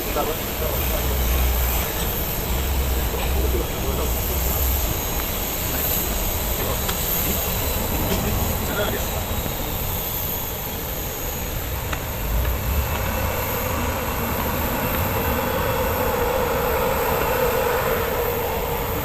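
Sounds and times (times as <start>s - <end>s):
aircraft engine rumble and hiss: 0.0s - 19.0s.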